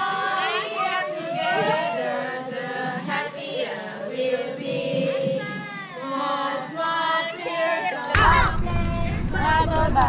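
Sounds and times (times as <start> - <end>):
children and women singing: 0.0 - 10.0.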